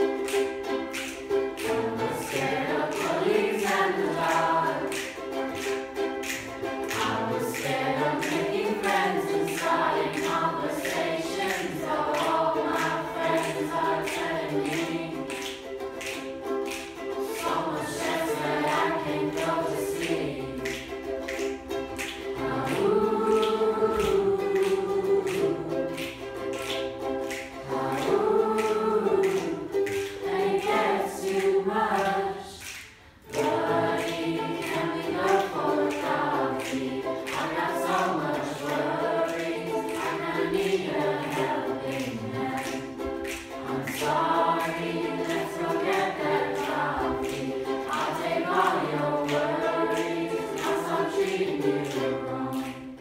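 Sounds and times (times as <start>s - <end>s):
finger snaps: 0.0s - 53.0s
group of voices singing: 0.0s - 53.0s
ukulele: 0.0s - 53.0s.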